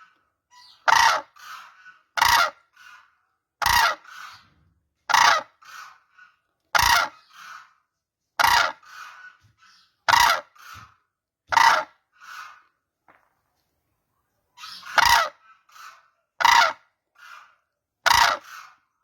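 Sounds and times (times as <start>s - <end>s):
crane calling harshly: 0.0s - 12.8s, 14.6s - 19.0s.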